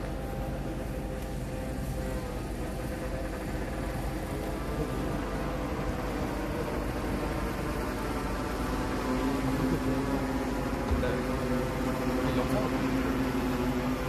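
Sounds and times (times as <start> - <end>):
drone propeller humming: 0.0 - 14.0.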